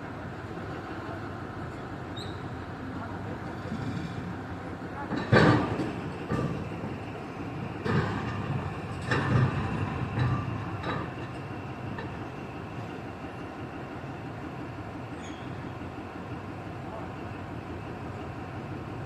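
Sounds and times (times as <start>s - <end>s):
heavy machinery rumbling: 0.1s - 19.0s.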